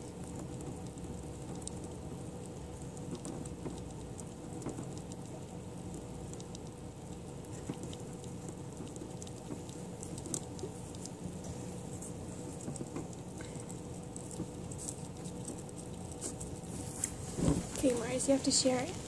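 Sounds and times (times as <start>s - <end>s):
rat gnawing eggshell: 0.0s - 19.0s.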